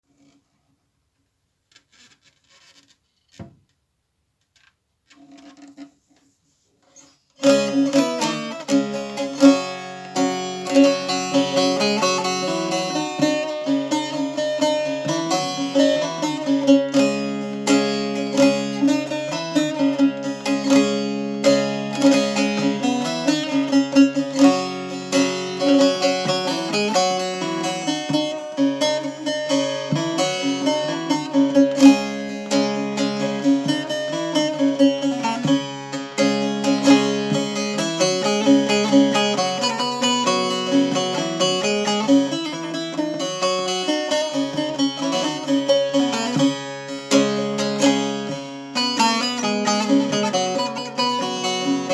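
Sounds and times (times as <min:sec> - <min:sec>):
plucked lute melody: 0:07.4 - 0:51.9.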